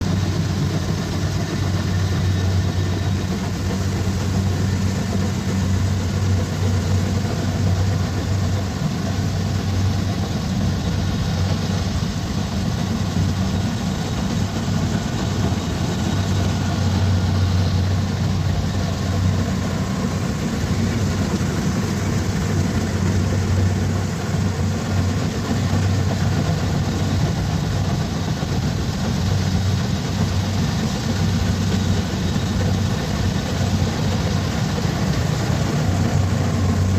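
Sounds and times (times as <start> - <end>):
combine harvester engine droning: 0.0 - 36.9.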